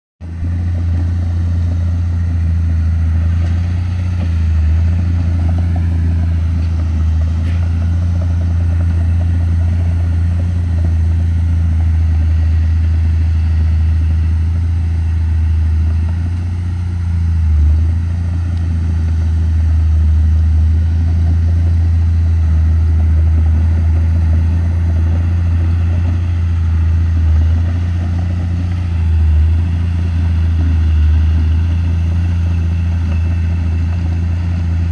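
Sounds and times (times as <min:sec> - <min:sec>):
bulldozer diesel engine droning: 0:00.2 - 0:34.9.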